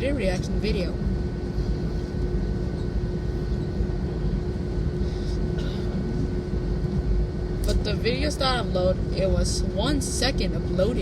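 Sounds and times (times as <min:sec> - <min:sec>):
aircraft cabin low rumble: 0:00.0 - 0:11.0
constant hum: 0:00.0 - 0:11.0.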